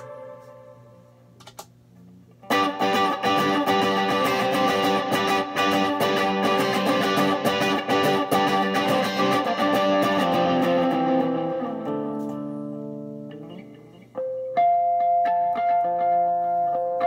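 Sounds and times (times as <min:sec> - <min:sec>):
high guitar notes ringing: 0:00.0 - 0:01.2, 0:02.4 - 0:17.0
electric guitar chords ringing: 0:00.0 - 0:01.3, 0:02.3 - 0:17.0.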